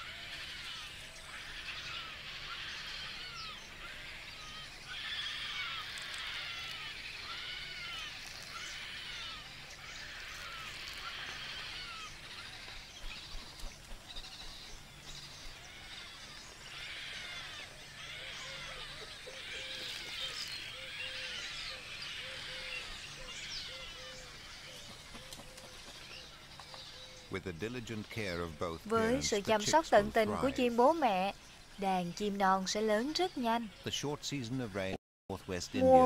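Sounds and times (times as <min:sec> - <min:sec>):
stork chicks begging cries: 0:00.0 - 0:25.0, 0:28.9 - 0:33.7.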